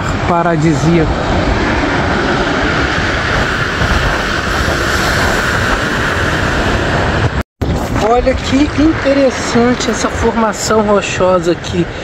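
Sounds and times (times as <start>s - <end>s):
sea surf rushing: 0.0s - 12.0s
wind buffeting microphone: 0.0s - 12.0s.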